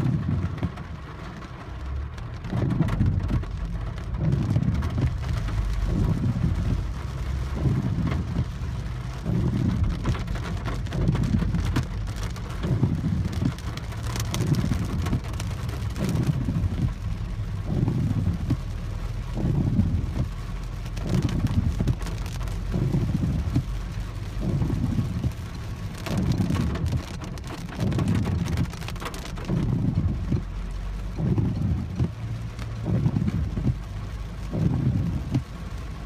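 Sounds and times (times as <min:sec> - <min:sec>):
heavy rain on car roof: 0:00.0 - 0:36.0
windshield wipers thumping: 0:00.0 - 0:36.0.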